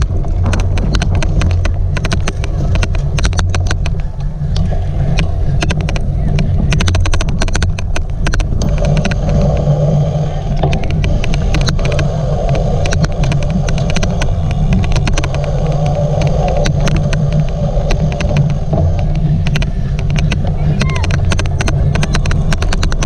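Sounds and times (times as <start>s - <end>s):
irregular clicking: 0.0s - 23.0s
wind and tyre rumble: 0.0s - 23.0s.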